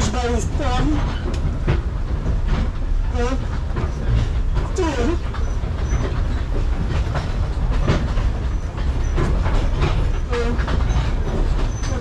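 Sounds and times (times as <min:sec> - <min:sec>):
train rumbling on track: 0:00.0 - 0:12.0
wheels clacking and knocking: 0:00.0 - 0:12.0.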